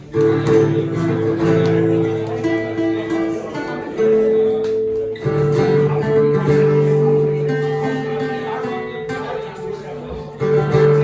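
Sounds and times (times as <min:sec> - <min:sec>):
electric guitar held notes: 0:00.0 - 0:11.0.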